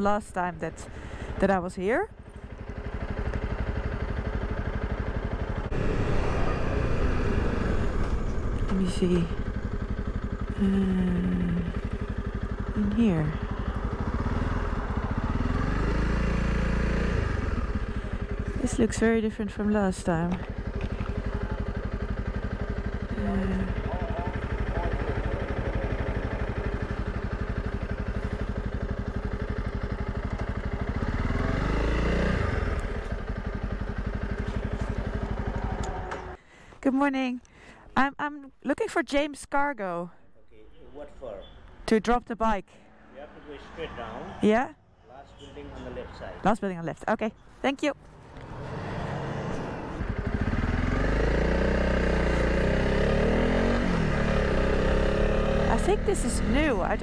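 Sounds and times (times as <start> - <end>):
motorcycle engine idling: 0.0 - 36.8, 45.4 - 46.4, 47.0 - 57.0.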